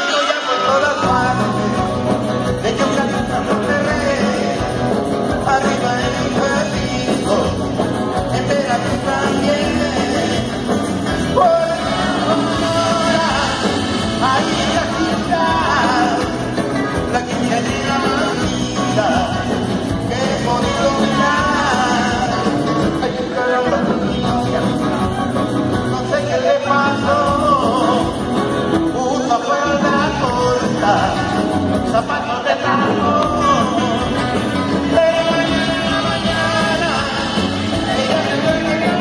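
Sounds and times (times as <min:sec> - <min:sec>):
live rock and roll band: 0:00.0 - 0:39.0.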